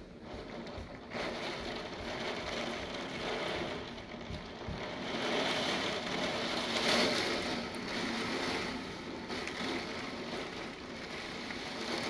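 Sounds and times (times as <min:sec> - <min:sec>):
rain: 0:00.2 - 0:12.0.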